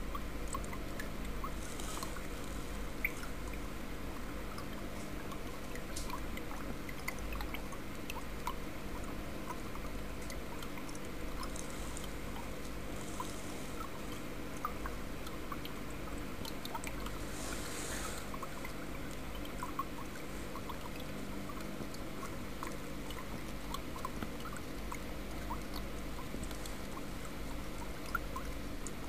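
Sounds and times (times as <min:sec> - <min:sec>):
steady low hum: 0:00.0 - 0:29.0
water trickling and dripping: 0:00.0 - 0:29.0.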